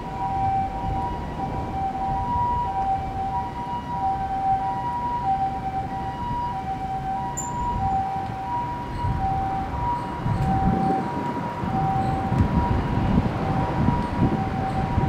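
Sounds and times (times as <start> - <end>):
diesel train rumbling: 0.0 - 15.0
level crossing warning bell: 0.0 - 15.0.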